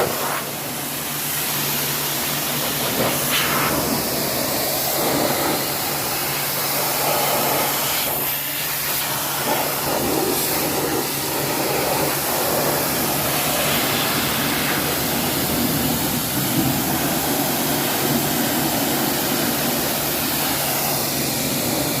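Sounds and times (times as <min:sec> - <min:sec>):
pressure washer motor humming: 0:00.0 - 0:22.0
water jet spraying hiss: 0:00.0 - 0:22.0.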